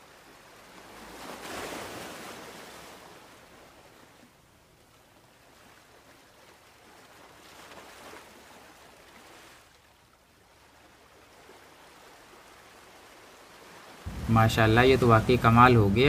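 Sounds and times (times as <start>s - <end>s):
wind and sea water rushing: 0.0s - 16.0s.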